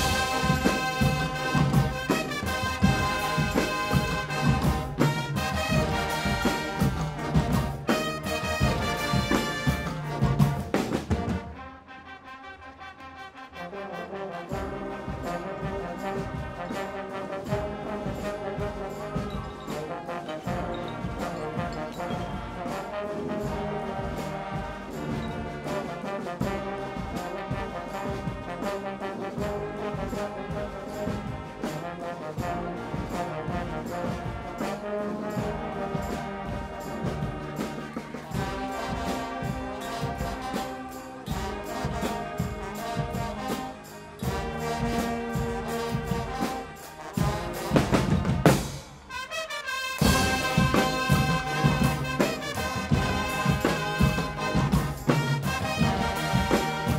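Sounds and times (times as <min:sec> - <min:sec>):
drum beat: 0:00.0 - 0:11.6, 0:14.6 - 0:49.2, 0:50.0 - 0:56.9
brass band playing: 0:00.0 - 0:56.9.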